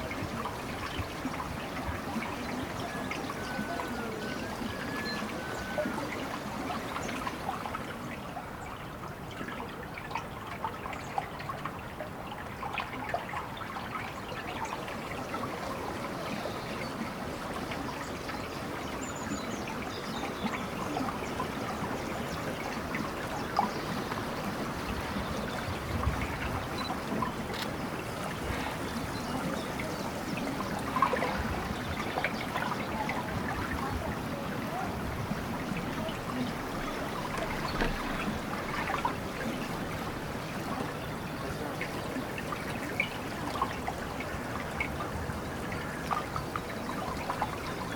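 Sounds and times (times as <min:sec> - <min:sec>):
small water splashes: 0:00.0 - 0:47.9
water trickling: 0:00.0 - 0:47.9.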